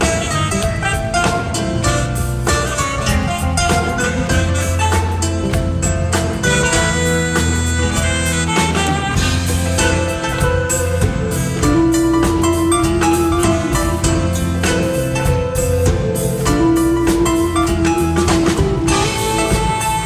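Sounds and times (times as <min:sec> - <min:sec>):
jazz band playing: 0:00.0 - 0:20.0.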